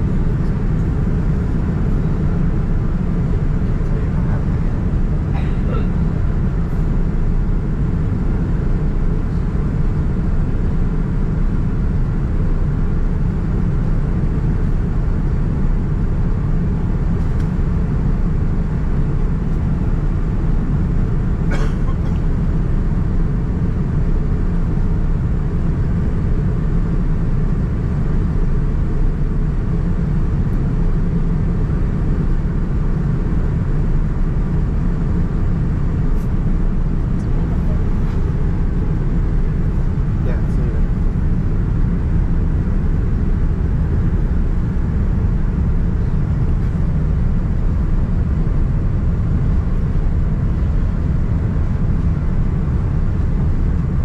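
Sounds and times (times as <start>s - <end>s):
airliner cabin roar: 0.0s - 54.0s.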